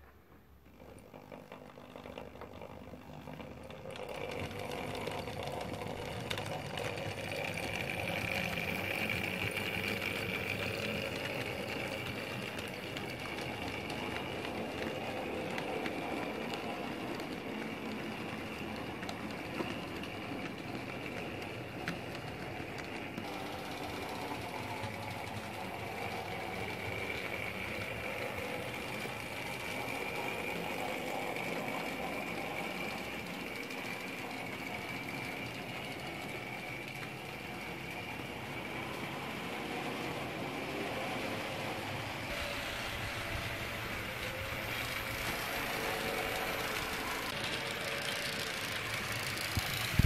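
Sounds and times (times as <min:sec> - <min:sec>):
wheels rolling on rails: 0:00.0 - 0:50.0
model train motor whir: 0:00.6 - 0:50.0.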